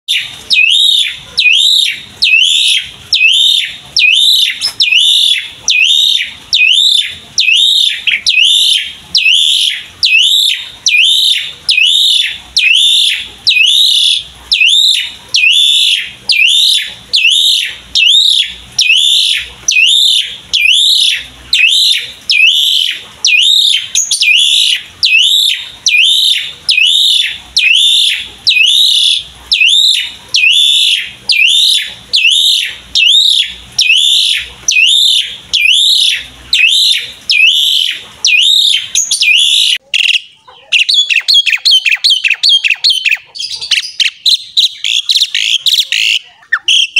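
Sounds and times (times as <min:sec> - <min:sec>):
starling whistled song: 0:00.1 - 0:46.9.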